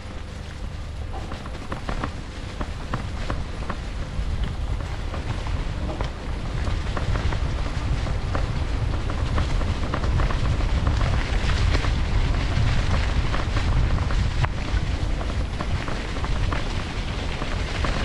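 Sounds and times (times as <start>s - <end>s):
tyres rolling over dry leaves: 0.0s - 18.0s
wind buffeting microphone: 0.0s - 18.0s
bike clicks and rattles: 1.0s - 18.0s.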